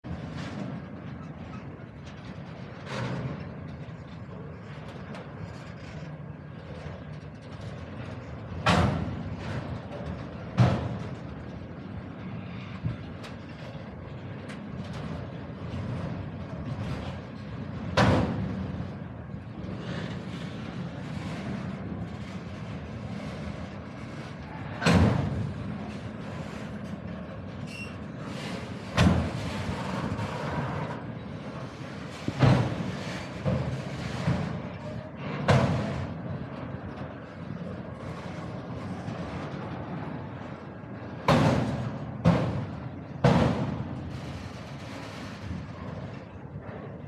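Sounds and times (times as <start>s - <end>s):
freight train cars rumbling: 0.0s - 47.0s.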